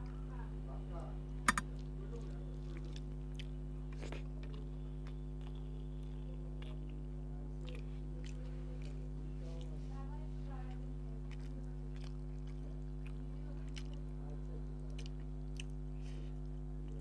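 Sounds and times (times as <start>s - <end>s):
steady low hum: 0.0s - 17.0s
person chewing food: 1.5s - 9.9s, 10.7s - 17.0s.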